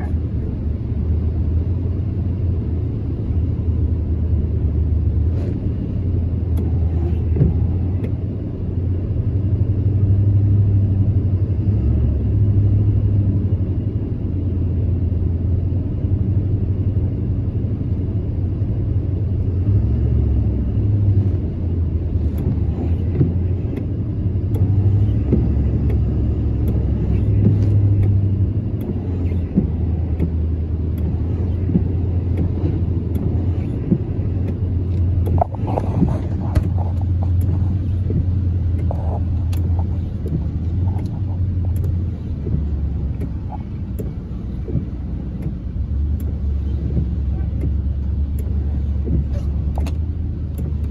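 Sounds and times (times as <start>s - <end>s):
car driving through floodwater: 0.0s - 50.9s.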